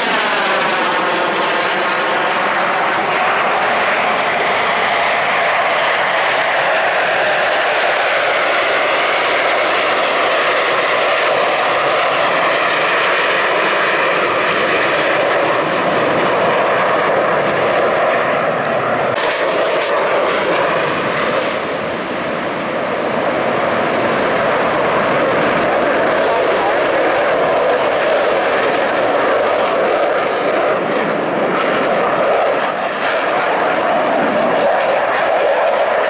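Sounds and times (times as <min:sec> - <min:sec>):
jet roar passing overhead: 0:00.0 - 0:36.0.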